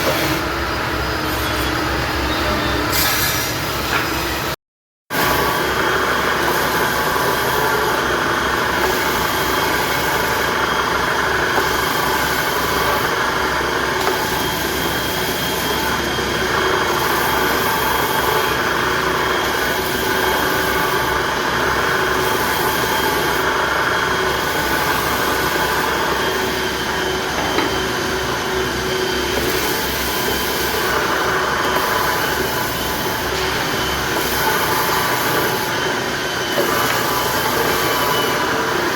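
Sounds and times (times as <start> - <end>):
power tool motor running: 5.2 - 38.9.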